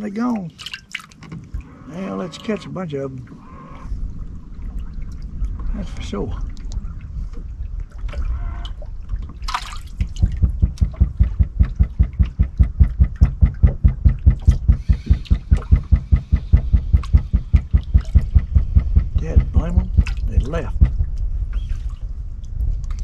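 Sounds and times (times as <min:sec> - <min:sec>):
water slapping against boat hull: 0:00.0 - 0:01.6, 0:04.6 - 0:23.0.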